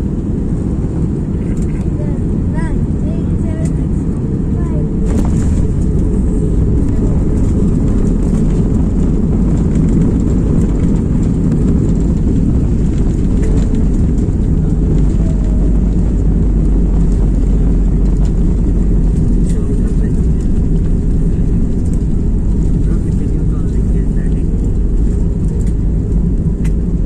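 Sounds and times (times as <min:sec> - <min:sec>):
aircraft engines and wheels rumbling: 0:00.0 - 0:27.0.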